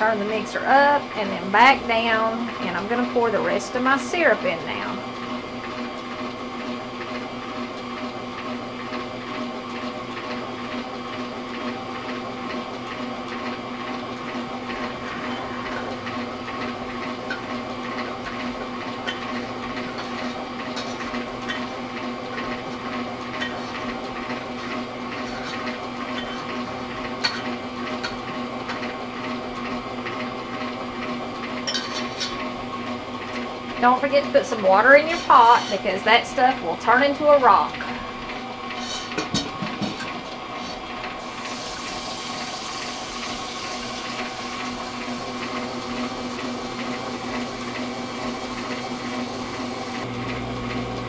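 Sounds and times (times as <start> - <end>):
stand mixer whisking: 0.0 - 51.0.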